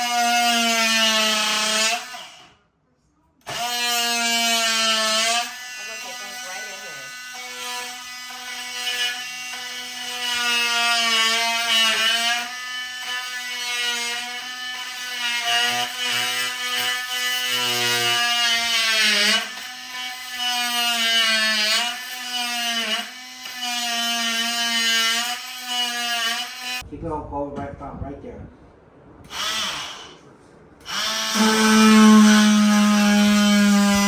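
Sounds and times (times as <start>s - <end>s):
electric drill whining: 3.5s - 26.8s, 29.3s - 30.2s, 30.8s - 34.0s.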